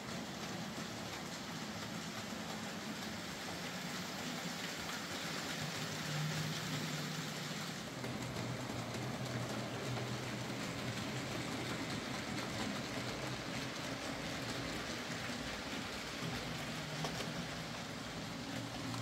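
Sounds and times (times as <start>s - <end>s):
model train motor hum: 0.0s - 19.0s
model train wheels on rails: 0.0s - 19.0s.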